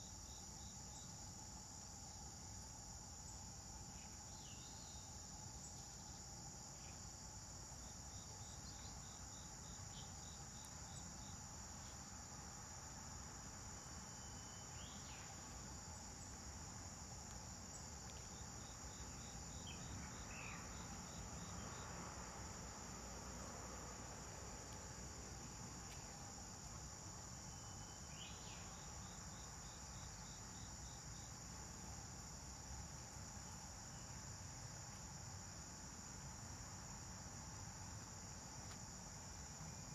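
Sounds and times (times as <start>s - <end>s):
high-pitched insect chorus: 0.0s - 39.9s
quick insect chirps: 0.0s - 39.9s.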